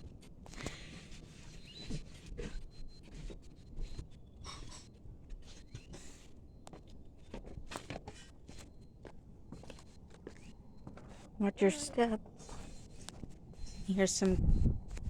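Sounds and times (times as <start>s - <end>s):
soft scratchy rustling: 0.0s - 15.0s.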